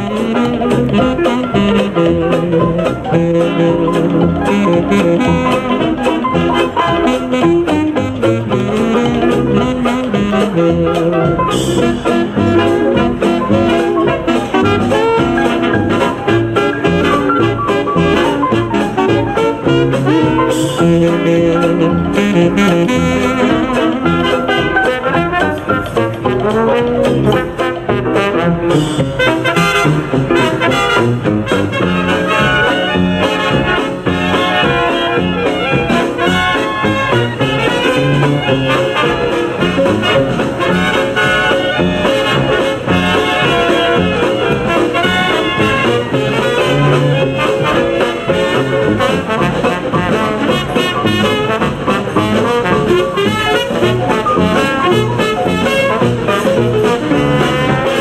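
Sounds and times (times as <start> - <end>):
brass swing jazz music: 0.0 - 58.0.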